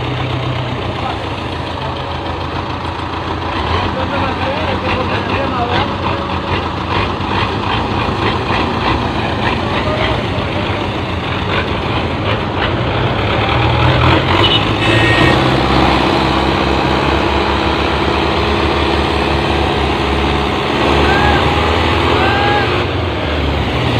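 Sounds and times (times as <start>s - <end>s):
tractor diesel engine drone: 0.0s - 23.9s.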